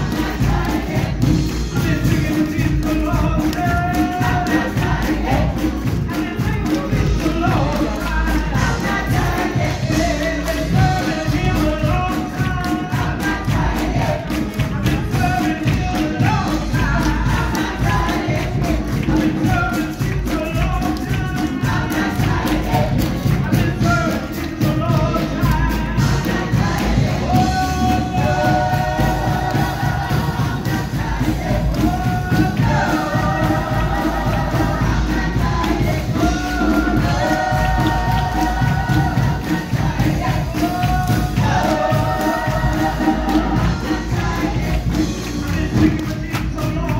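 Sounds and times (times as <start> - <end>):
gospel choir singing a hymn: 0.0 - 46.9
instrumental accompaniment with heavy bass: 0.0 - 46.9.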